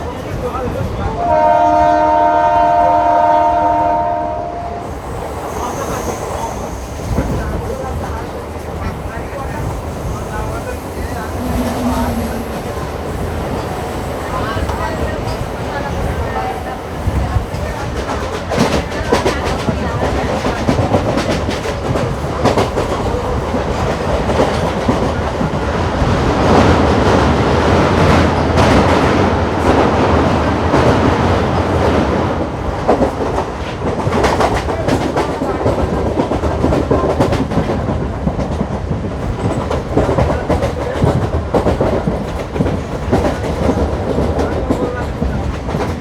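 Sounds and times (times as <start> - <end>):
continuous train rumble: 0.0 - 46.0.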